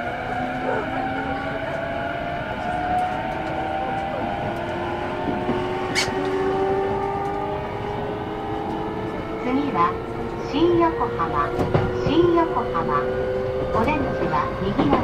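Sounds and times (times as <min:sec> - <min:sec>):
traction motor whine: 0:00.0 - 0:14.7
wheels on rail: 0:00.0 - 0:15.0.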